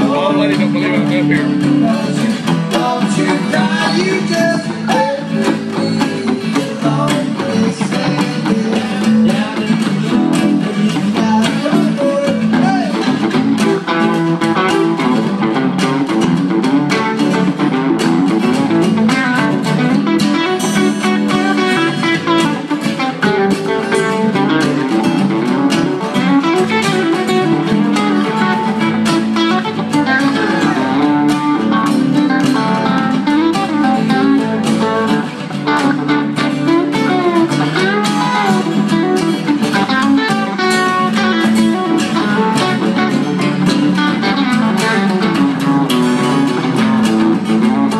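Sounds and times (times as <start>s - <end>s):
guitar accompaniment: 0.0s - 47.9s
plucked guitar melody: 0.0s - 47.9s.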